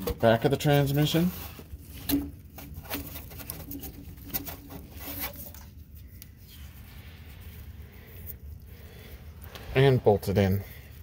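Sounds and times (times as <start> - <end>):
hands rubbing and scraping: 0.7 - 11.0.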